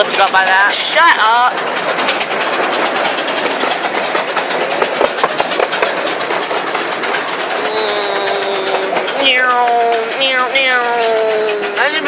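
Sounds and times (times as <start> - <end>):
fast irregular track clicks: 0.0 - 12.0
ride train rumbling and rattling: 0.0 - 12.0.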